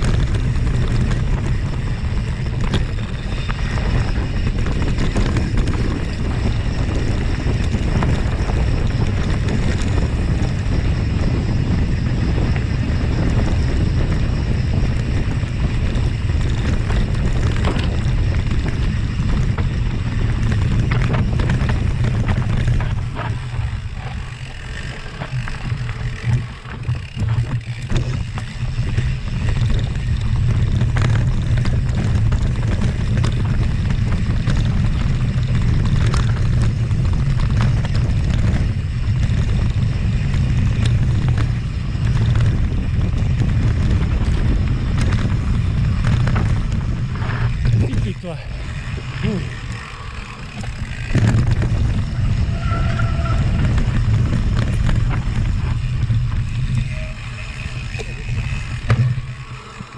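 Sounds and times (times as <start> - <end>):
bike knocks and rattles: 0.0 - 59.9
low rumble: 0.0 - 59.9
wind buffeting microphone: 0.0 - 59.9.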